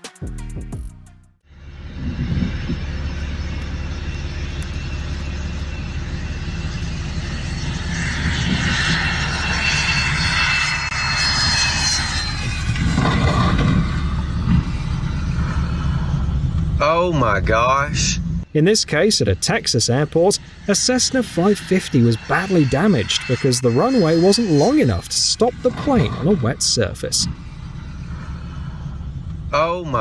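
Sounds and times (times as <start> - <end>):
high turbine whine: 1.5 - 16.8, 18.5 - 29.4
jet engines running: 1.6 - 16.5, 18.5 - 29.2.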